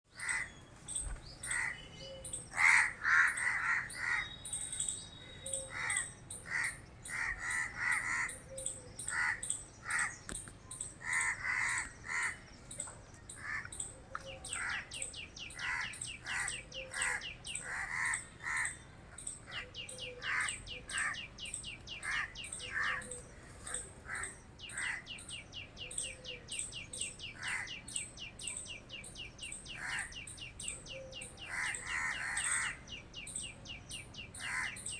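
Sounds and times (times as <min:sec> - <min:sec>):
harsh bird calls: 0:00.1 - 0:34.9.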